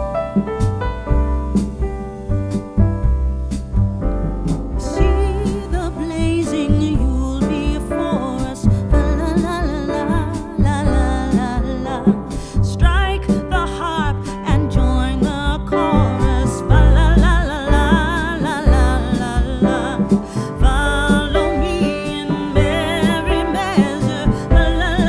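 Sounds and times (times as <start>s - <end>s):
bass: 0.0s - 25.0s
piano chords: 0.0s - 25.0s
steady beat: 0.0s - 25.0s
song with sung melody: 4.5s - 25.0s.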